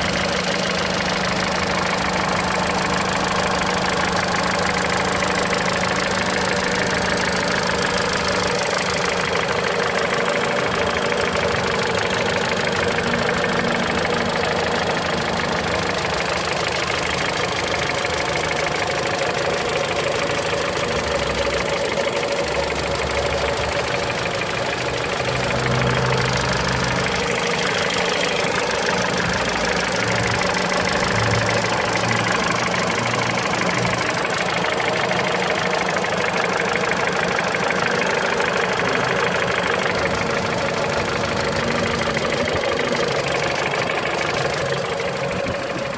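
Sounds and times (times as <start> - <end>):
car engine idling with knock: 0.0 - 45.9.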